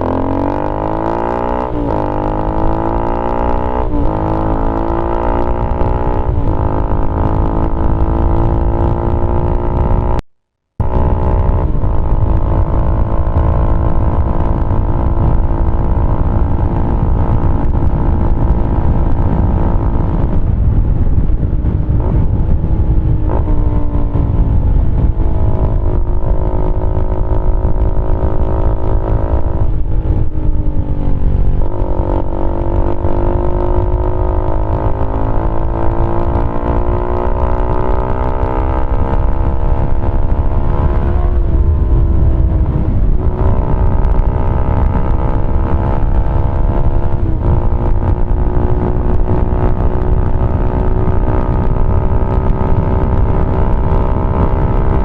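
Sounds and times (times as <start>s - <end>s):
motorcycle engine revving: 0.0s - 10.2s, 10.8s - 55.0s.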